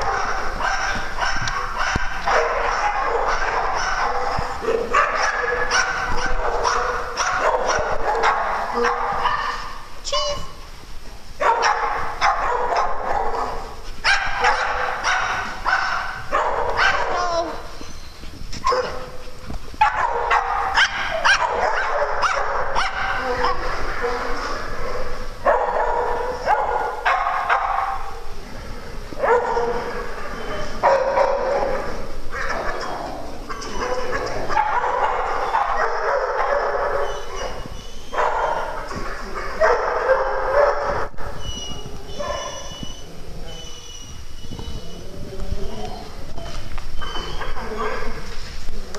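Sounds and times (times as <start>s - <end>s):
dogs barking: 0.0s - 9.9s, 11.4s - 18.0s, 18.6s - 28.4s, 29.1s - 48.3s.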